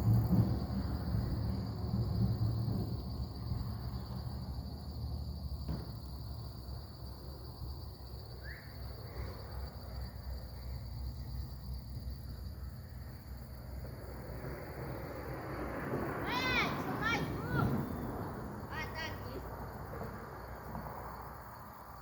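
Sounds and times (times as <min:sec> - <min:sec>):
crickets chirring: 0:00.0 - 0:22.0
low outdoor rumble: 0:00.0 - 0:22.0.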